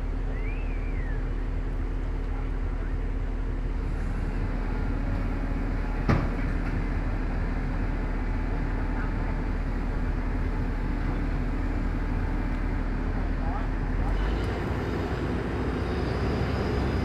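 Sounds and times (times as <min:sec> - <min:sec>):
diesel machinery engine humming: 0:00.0 - 0:17.0.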